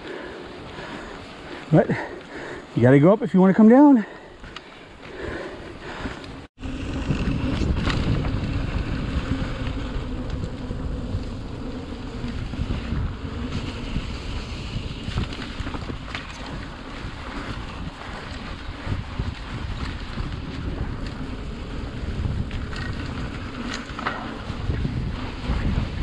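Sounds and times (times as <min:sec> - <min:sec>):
bike tyres rumbling on dirt: 0:00.0 - 0:26.0
bike clicks and rattles: 0:04.3 - 0:26.0
wind buffeting microphone: 0:04.3 - 0:26.0.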